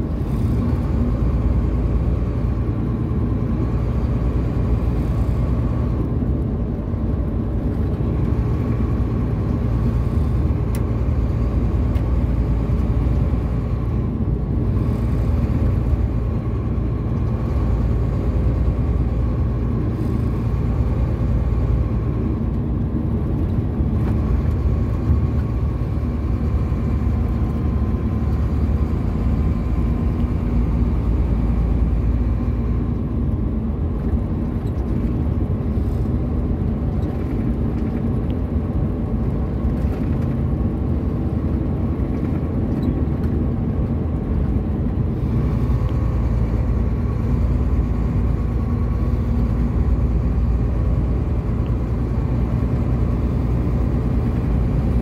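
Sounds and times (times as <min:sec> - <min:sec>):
diesel truck engine running: 0:00.0 - 0:55.0
road and tyre noise: 0:00.0 - 0:55.0.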